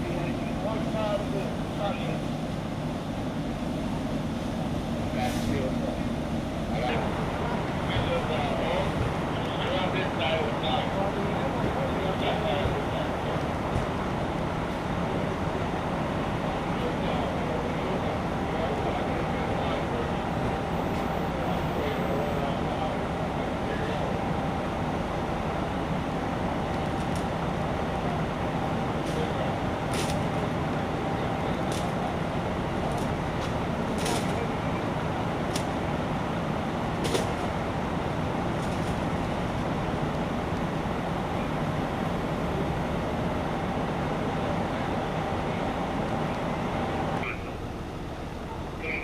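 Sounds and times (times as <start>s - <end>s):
large vehicle engine running: 0.0s - 49.0s.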